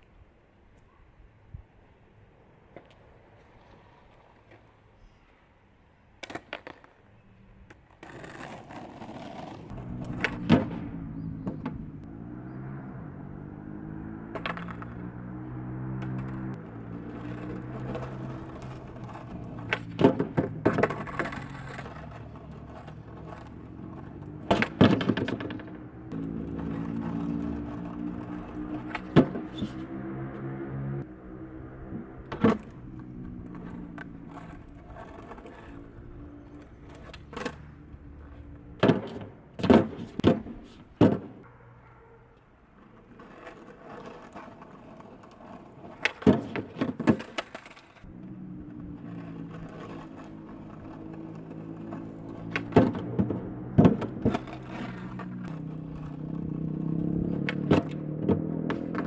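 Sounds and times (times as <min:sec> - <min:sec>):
skateboard wheels rolling: 0:00.0 - 0:59.0
skateboard clacking: 0:06.1 - 0:12.2, 0:14.1 - 0:29.9, 0:31.9 - 0:59.0.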